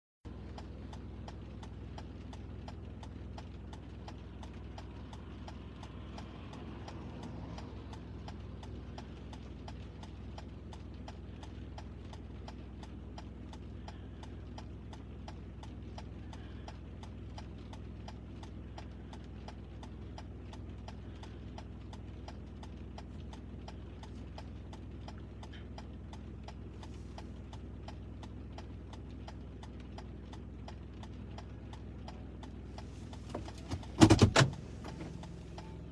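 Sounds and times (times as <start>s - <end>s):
car indicator ticking: 0.3s - 35.9s
low cabin hum: 0.3s - 35.9s.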